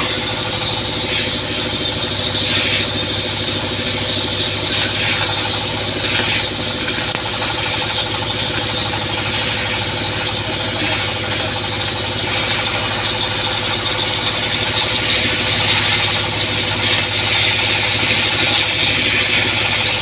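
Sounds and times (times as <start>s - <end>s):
boat engine machinery humming: 0.0s - 20.0s
high whine and hiss: 0.0s - 20.0s.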